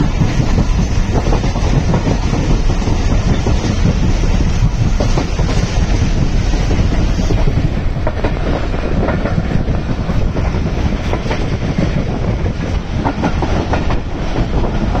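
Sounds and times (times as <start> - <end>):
train rumbling on track: 0.0 - 15.0
wheels clicking over rail joints: 0.0 - 15.0.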